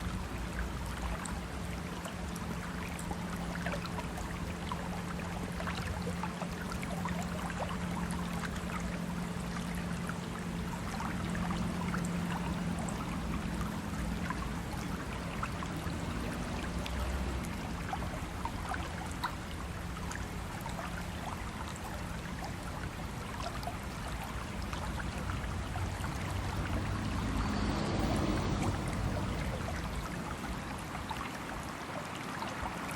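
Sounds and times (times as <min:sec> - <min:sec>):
low steady hum: 0:00.0 - 0:32.7
stream water trickling: 0:00.0 - 0:32.9.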